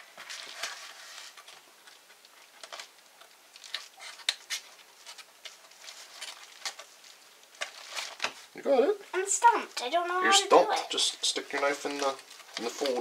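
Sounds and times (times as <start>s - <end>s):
faint paper crackles and ticks: 0.0s - 13.0s.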